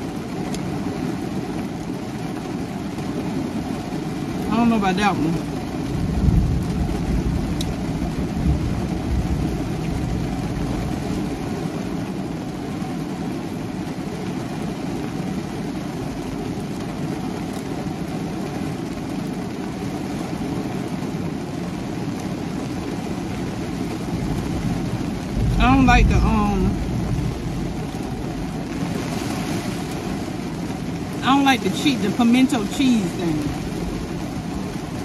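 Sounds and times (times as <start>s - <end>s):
heavy rain on car roof: 0.0s - 35.0s.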